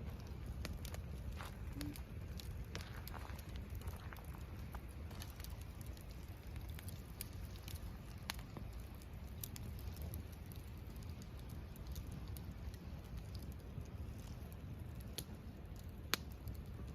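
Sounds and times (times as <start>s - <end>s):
bonfire crackling and popping: 0.0s - 16.9s
low fire rumble: 0.0s - 16.9s.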